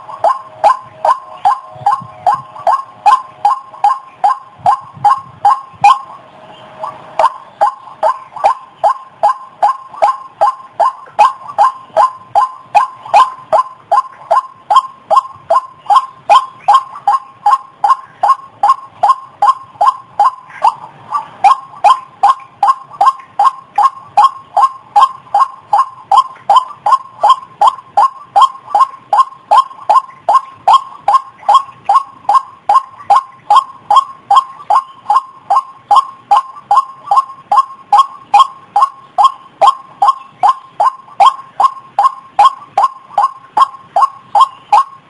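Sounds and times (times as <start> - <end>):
waterhen call: 0.0 - 45.0.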